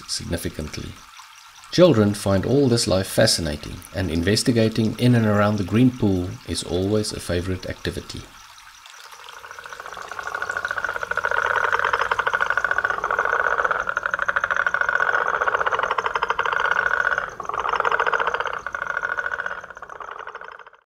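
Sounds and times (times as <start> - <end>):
toads calling in pulsed trills: 0.7 - 20.8.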